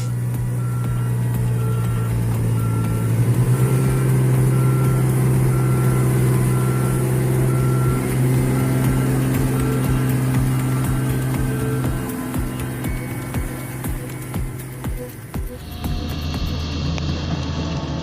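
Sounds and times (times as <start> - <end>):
reversing alarm beeping: 0.0 - 17.0
heavy vehicle engine running: 0.0 - 18.0.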